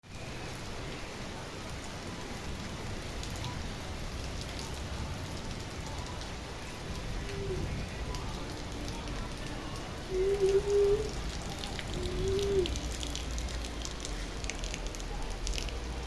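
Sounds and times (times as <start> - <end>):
raindrops ticking on surfaces: 0.0 - 16.0
steady rain falling: 0.0 - 16.0.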